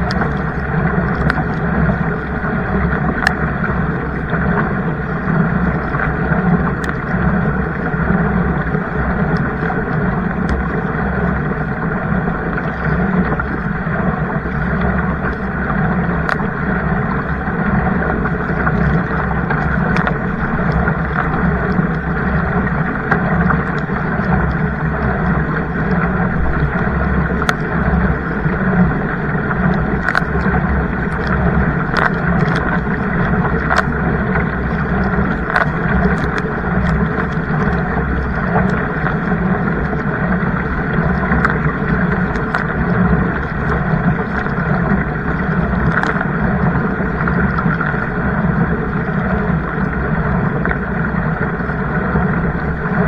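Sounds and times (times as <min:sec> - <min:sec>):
paddle clicks and knocks: 0:00.0 - 0:53.0
rushing water: 0:00.0 - 0:53.0
wind noise on microphone: 0:00.0 - 0:53.0.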